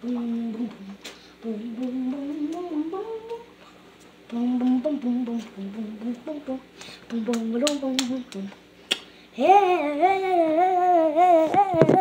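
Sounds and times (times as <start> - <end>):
person humming a melody: 0.0 - 3.5, 4.3 - 8.6, 9.4 - 12.0.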